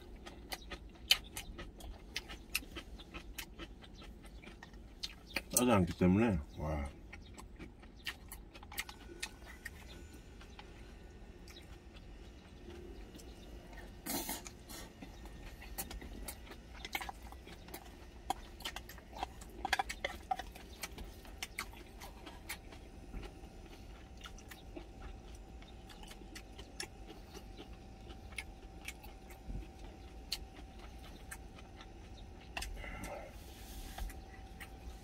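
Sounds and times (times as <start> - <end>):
chewing: 0.0 - 35.0
low steady hum: 0.0 - 35.0.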